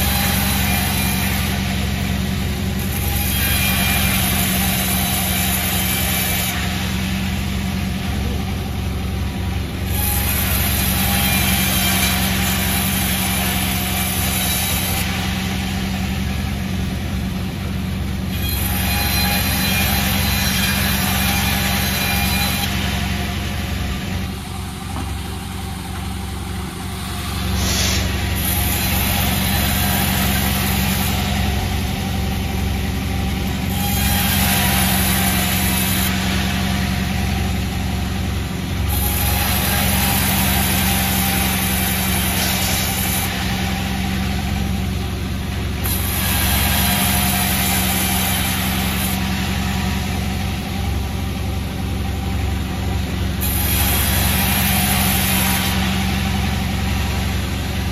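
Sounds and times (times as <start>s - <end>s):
engine drone: 0.0s - 57.9s
hissing saw cutting: 0.0s - 57.9s.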